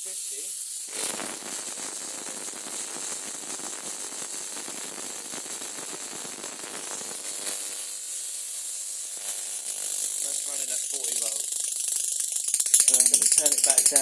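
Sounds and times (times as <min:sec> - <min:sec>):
high-voltage arc crackling and hissing: 0:00.0 - 0:14.0.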